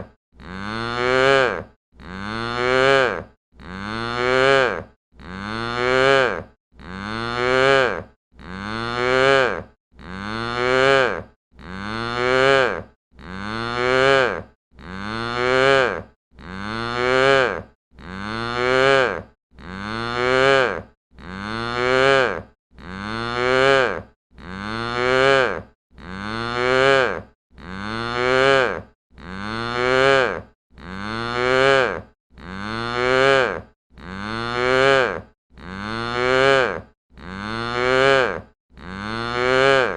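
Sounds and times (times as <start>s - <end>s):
cow mooing: 0.4s - 39.9s.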